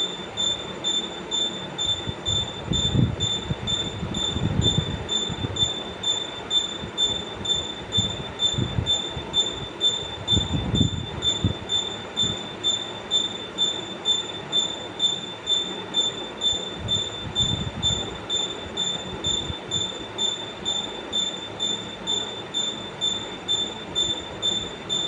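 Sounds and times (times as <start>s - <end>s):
pulsing high-pitched mechanical squeal: 0.0s - 25.0s.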